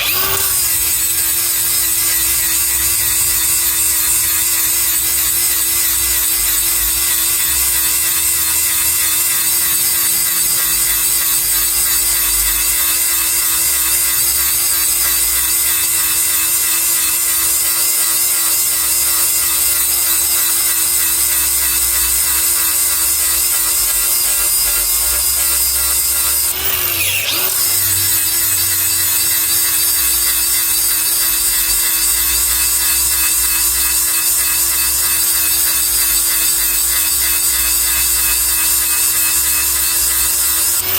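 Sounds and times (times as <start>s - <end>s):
hiss of grinding steel: 0.0s - 8.2s, 9.1s - 40.9s
power grinder whining: 0.0s - 40.9s.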